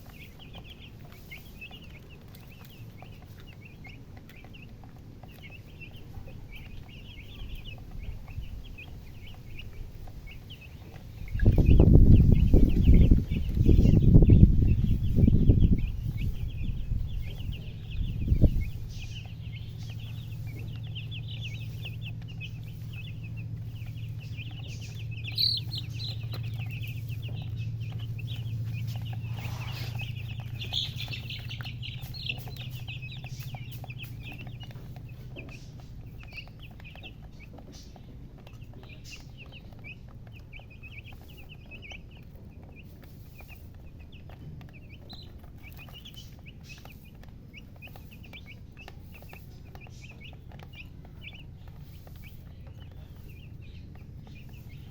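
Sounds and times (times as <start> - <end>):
chicks peeping: 0.0 - 54.9
low steady hum: 0.0 - 54.9.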